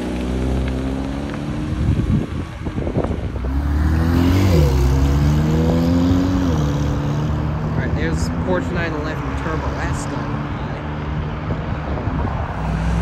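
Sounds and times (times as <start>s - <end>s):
car engine revving and shifting: 0.0s - 1.9s, 3.3s - 13.0s.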